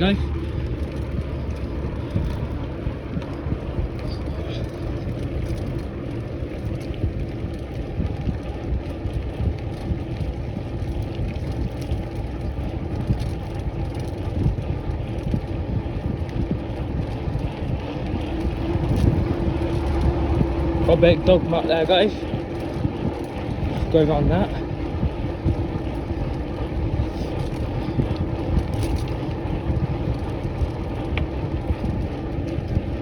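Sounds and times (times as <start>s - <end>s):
bike road noise: 0.0s - 33.0s
wind rumble on microphone: 0.0s - 33.0s.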